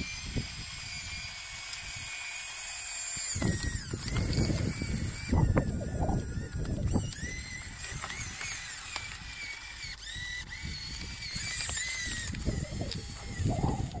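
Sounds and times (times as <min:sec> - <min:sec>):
electric motors whining: 0:00.0 - 0:14.0.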